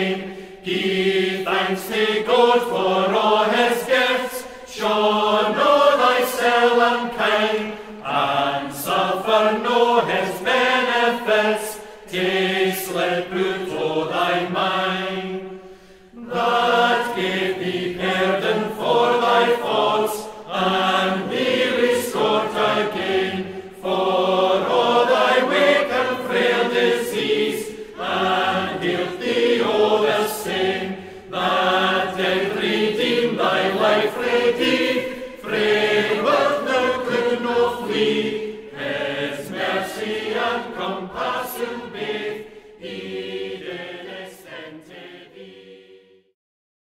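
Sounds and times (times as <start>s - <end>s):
voices singing a slow psalm: 0.0s - 46.3s.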